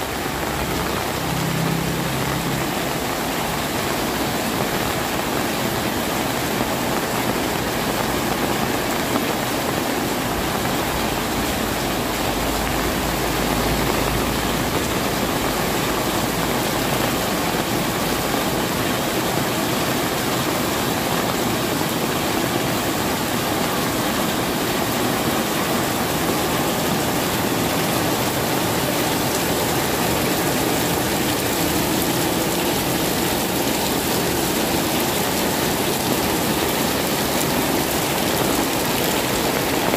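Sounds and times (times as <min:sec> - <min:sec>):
heavy rain on roofs: 0:00.0 - 0:39.9
water running off eaves: 0:00.0 - 0:39.9.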